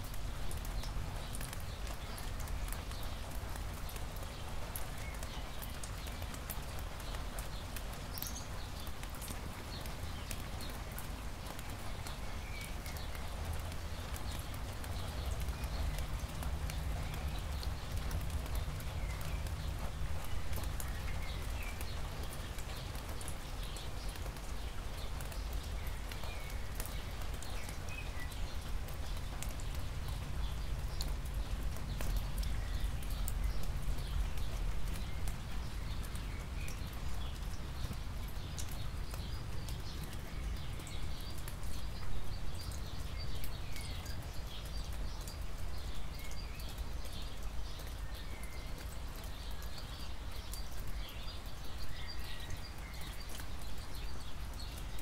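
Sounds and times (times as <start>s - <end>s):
raindrops ticking on asphalt: 0.0s - 55.0s.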